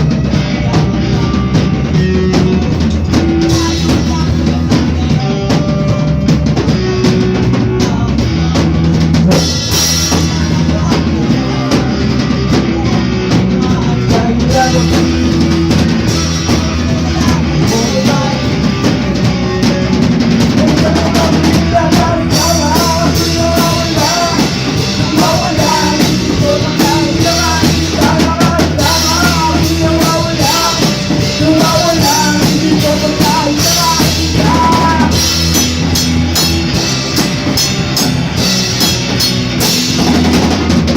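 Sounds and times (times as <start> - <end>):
drum kit beat: 0.0 - 40.9
sustained bass notes: 0.0 - 40.9.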